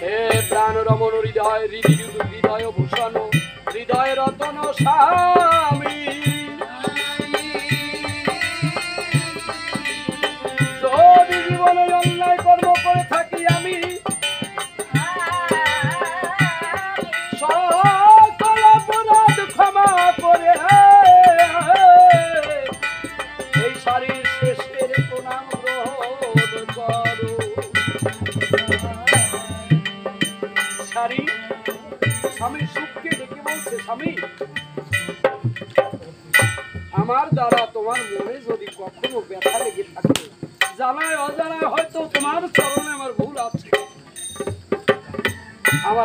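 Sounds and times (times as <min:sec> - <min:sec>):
wavering folk melody: 0:00.0 - 0:40.0
hand drum beats: 0:00.0 - 0:46.0
rattling percussion: 0:00.0 - 0:46.0.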